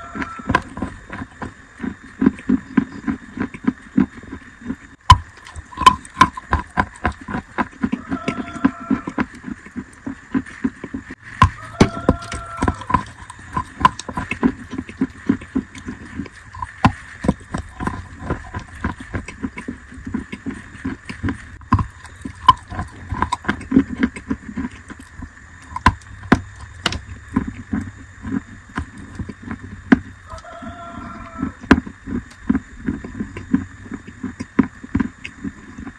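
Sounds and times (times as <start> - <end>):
chewing wet crunches: 0.0 - 35.9.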